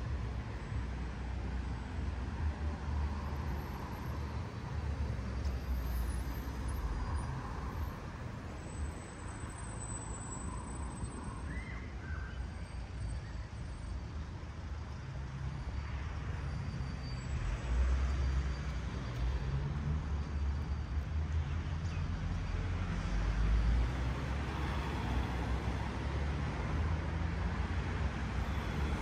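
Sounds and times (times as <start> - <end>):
traffic rumble of passing cars: 0.0 - 29.0.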